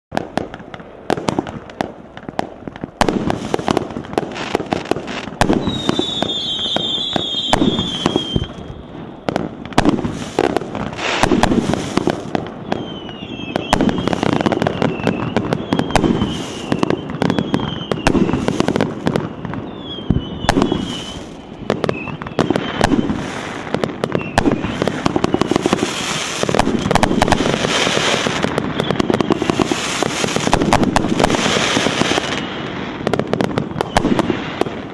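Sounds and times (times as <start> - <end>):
firework battery firing: 0.1 - 34.9
falling firework whistles: 3.0 - 34.9.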